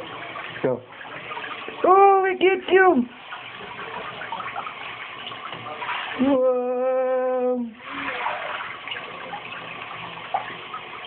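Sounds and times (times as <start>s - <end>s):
shower spraying into bathtub: 0.0s - 11.0s.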